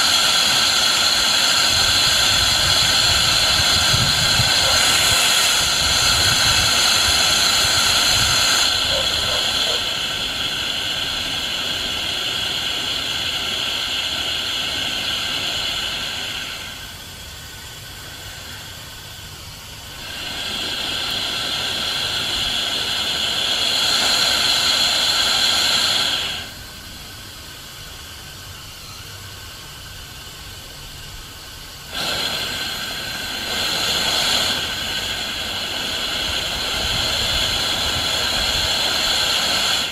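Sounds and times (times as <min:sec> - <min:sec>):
steam hissing from engine: 0:00.0 - 0:39.9.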